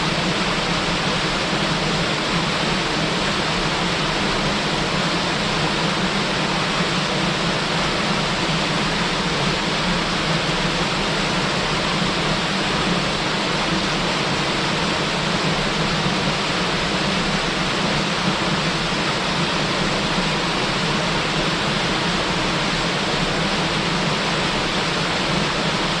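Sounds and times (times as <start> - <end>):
small waterfall rushing: 0.0 - 26.0.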